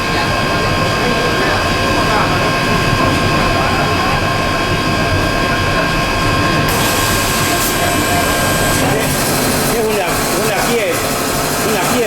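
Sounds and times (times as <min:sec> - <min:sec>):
machinery mechanical drone: 0:00.0 - 0:12.0.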